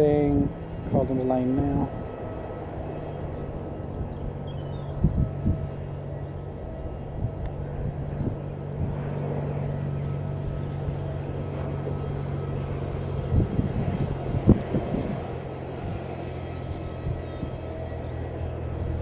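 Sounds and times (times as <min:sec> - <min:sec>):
light aircraft engine droning: 0:00.0 - 0:19.0.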